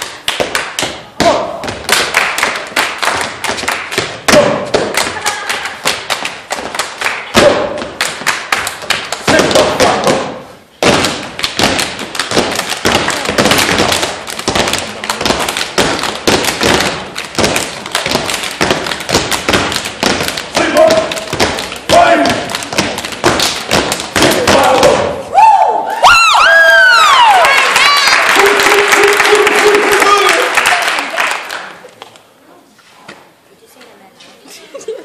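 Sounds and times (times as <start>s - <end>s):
rhythmic stomps and claps: 0.0s - 25.3s, 27.2s - 32.2s.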